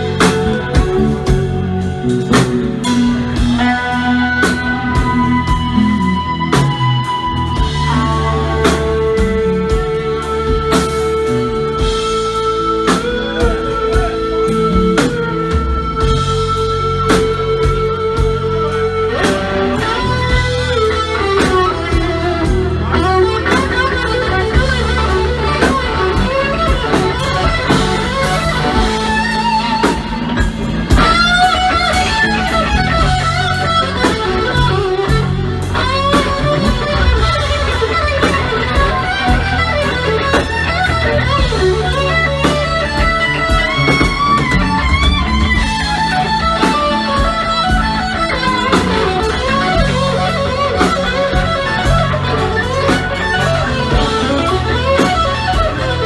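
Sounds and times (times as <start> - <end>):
bass guitar: 0.0 - 56.0
drums: 0.0 - 56.0
electric guitar lead: 0.0 - 56.0.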